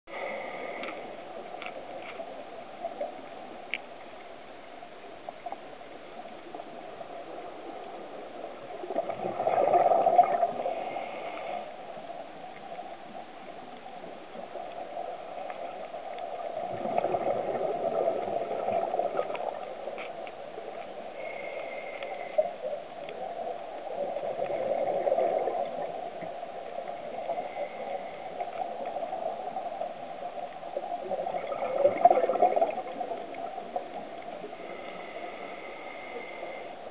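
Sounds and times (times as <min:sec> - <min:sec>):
steady hiss: 0:00.1 - 0:09.0, 0:09.9 - 0:16.8, 0:17.4 - 0:31.5, 0:32.6 - 0:36.9
regulator bubbles gurgling underwater: 0:05.3 - 0:36.9.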